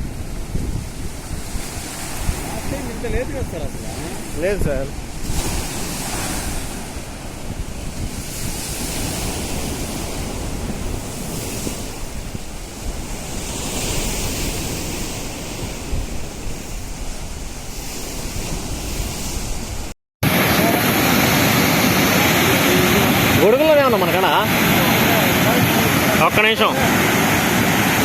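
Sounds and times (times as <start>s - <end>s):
floodwater rushing: 0.0s - 15.3s, 20.2s - 28.0s
wind buffeting microphone: 0.0s - 28.0s.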